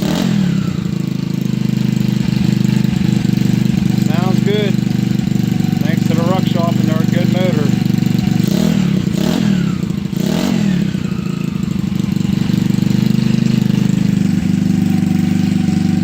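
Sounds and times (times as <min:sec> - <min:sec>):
scooter engine idling: 0:00.0 - 0:16.0
scooter engine revving: 0:00.0 - 0:16.0.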